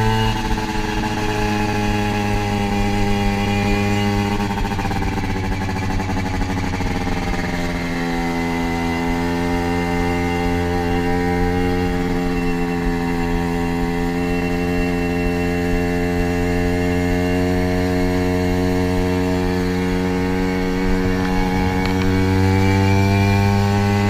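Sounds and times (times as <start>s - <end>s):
scooter engine buzzing: 0.0s - 24.0s.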